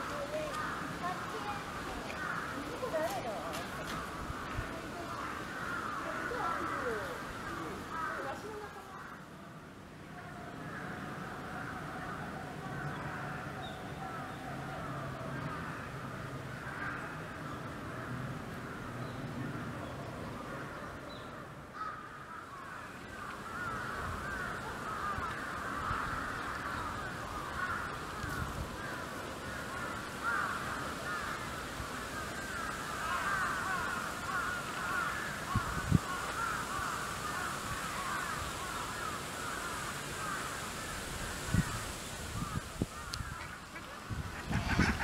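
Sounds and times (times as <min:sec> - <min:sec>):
flock of birds calling: 0:00.0 - 0:09.4, 0:10.2 - 0:45.0.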